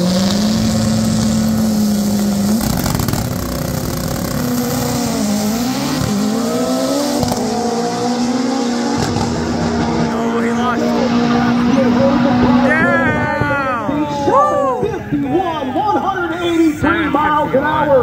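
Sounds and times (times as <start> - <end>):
cars accelerating hard: 0.0 - 17.0
drag racing engines revving: 0.0 - 18.0.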